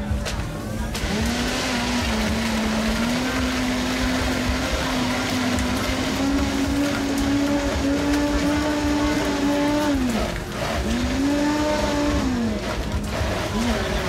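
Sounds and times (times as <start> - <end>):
blender motor whine: 0.8 - 14.0.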